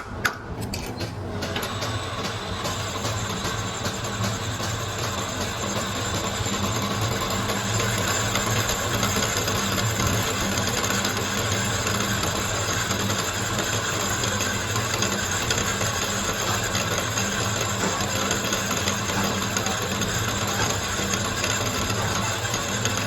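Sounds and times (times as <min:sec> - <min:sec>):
workshop machinery humming: 0:00.0 - 0:23.0.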